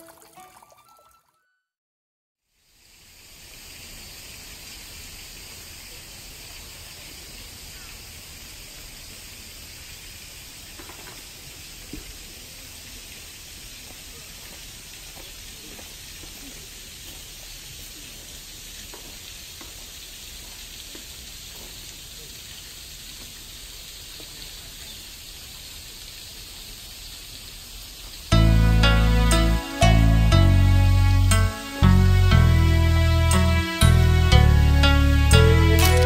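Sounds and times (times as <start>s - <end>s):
steady hiss: 2.5s - 36.0s.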